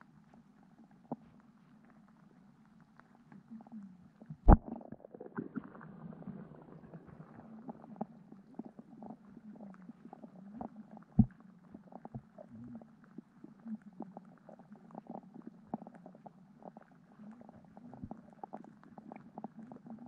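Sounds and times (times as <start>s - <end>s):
muffled underwater stream hum: 0.0s - 20.0s
small irregular clicks: 0.1s - 4.6s, 7.2s - 20.0s.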